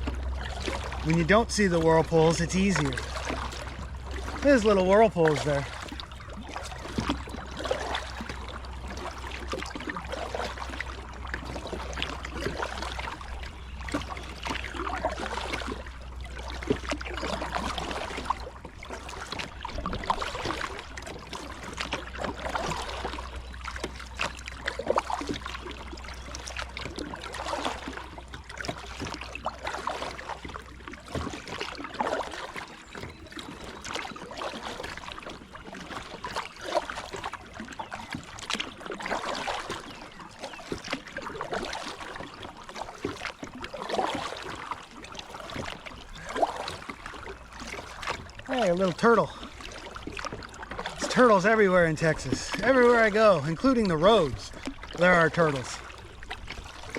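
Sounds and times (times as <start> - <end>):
paddle splashing and dripping: 0.0 - 56.9
river water moving around hull: 0.0 - 56.9.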